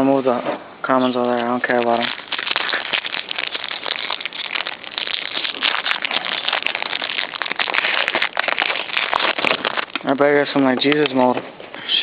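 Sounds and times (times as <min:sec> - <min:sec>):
foil wrapper crinkling: 0:01.1 - 0:11.4.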